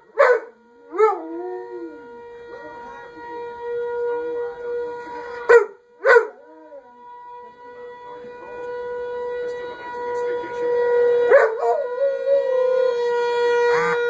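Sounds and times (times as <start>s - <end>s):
civil defense siren wailing: 0.0s - 14.0s.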